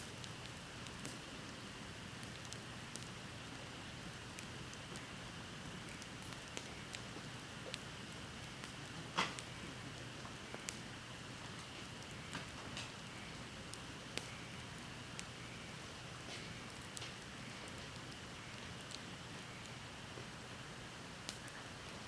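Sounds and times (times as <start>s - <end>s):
bonfire hissing and crackling: 0.0s - 22.0s
fire popping: 0.0s - 22.0s.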